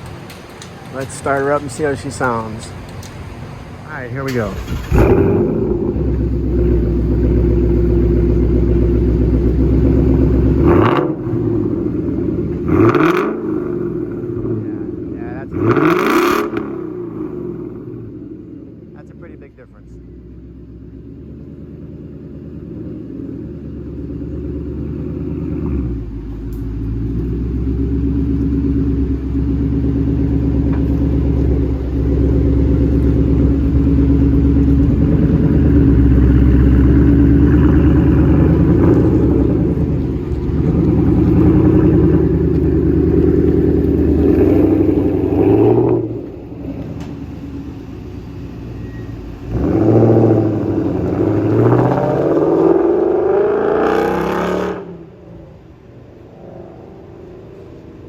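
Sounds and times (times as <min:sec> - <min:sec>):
car engine exhaust rumble: 0:00.0 - 0:58.0.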